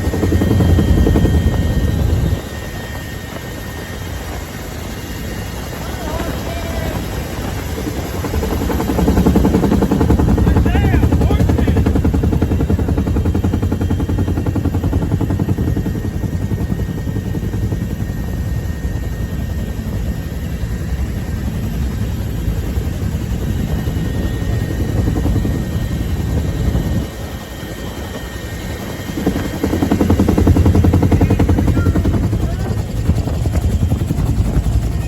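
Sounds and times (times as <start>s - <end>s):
helicopter rotor chopping: 0.0s - 35.0s
turbine engine whine: 0.0s - 35.0s.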